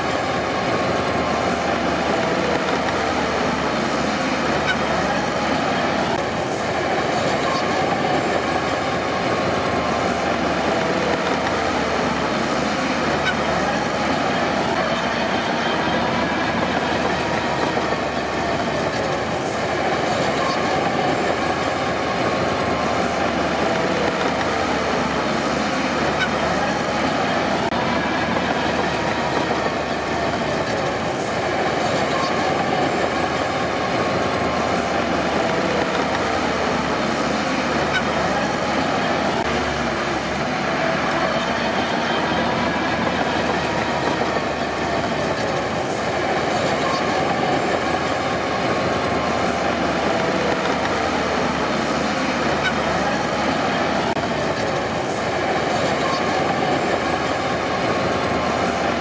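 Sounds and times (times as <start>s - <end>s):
bulldozer diesel engine: 0.0s - 59.0s
steel tracks clanking: 0.0s - 59.0s
track squeal: 0.0s - 59.0s.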